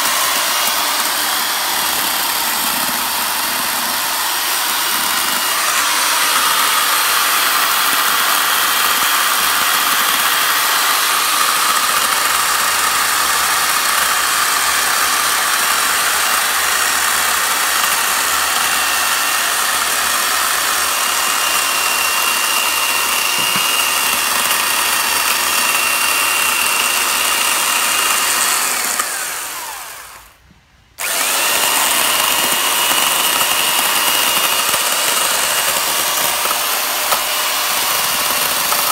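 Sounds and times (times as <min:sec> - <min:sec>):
electric chainsaw whining: 0:00.0 - 0:30.4, 0:31.0 - 0:38.9.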